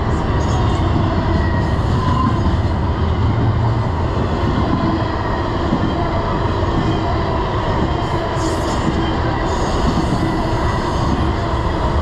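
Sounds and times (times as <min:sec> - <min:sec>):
steel wheels running on rails: 0:00.0 - 0:12.0.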